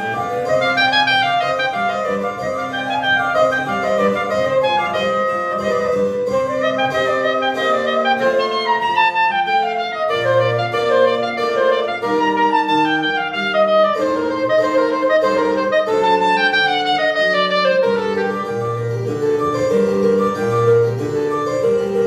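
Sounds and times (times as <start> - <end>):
soprano saxophone solo: 0.0 - 20.6.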